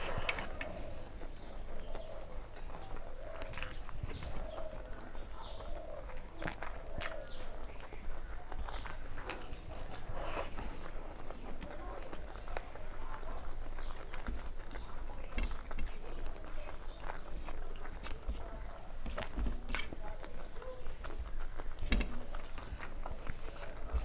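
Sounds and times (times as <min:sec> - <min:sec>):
wet chewing smacks: 0:00.0 - 0:24.0.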